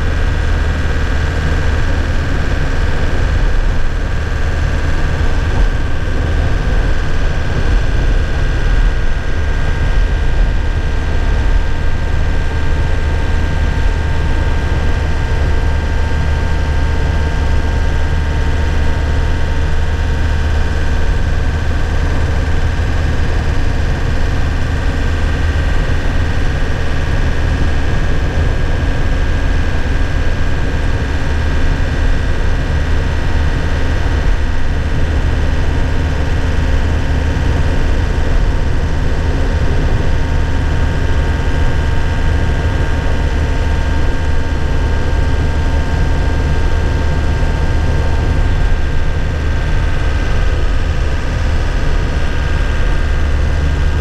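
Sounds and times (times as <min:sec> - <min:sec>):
truck engine drone with whine: 0:00.0 - 0:54.0.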